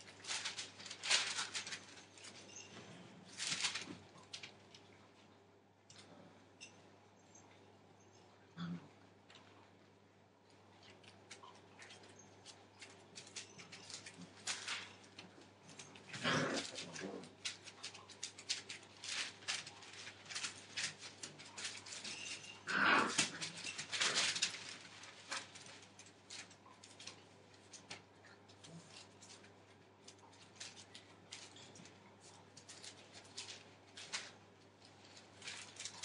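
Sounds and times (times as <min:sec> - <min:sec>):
rustling newspaper: 0:00.0 - 0:05.1, 0:11.1 - 0:36.0
patter of puppy paws: 0:00.0 - 0:08.5, 0:09.2 - 0:36.0.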